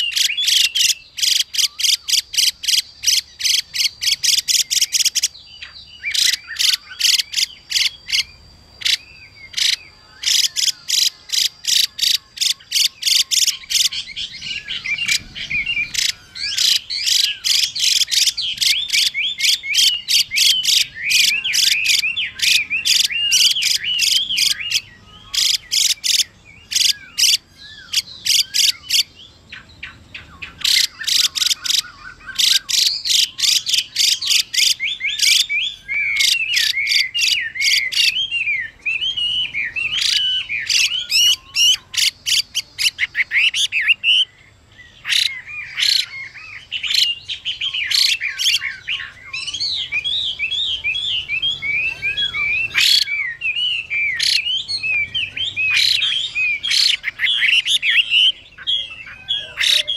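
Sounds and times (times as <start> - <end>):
bird singing varied song: 0.0 - 59.9.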